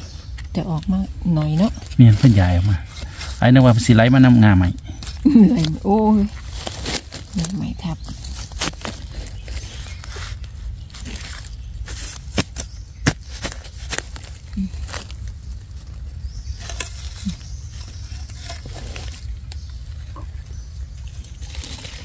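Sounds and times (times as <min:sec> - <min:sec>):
dry leaves rustling and crackling: 0:00.0 - 0:22.0
twigs snapping: 0:00.3 - 0:22.0.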